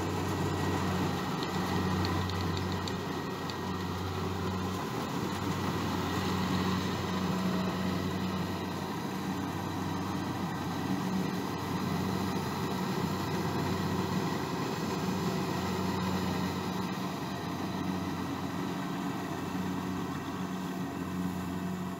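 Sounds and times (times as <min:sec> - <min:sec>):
harvester engine running: 0:00.0 - 0:21.9.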